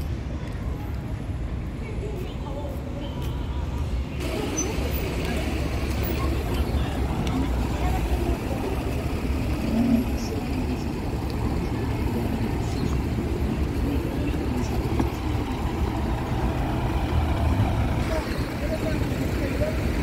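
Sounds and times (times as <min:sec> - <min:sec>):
cars passing on busy road: 0:00.0 - 0:20.0.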